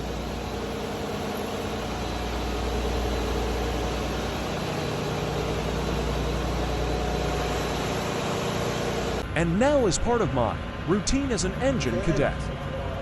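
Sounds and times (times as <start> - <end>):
engine-room machinery drone: 0.0 - 13.0.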